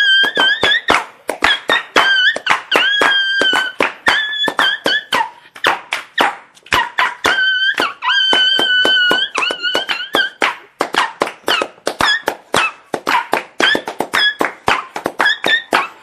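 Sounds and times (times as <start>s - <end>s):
small dog squeaking: 0.0s - 5.4s, 6.7s - 16.0s.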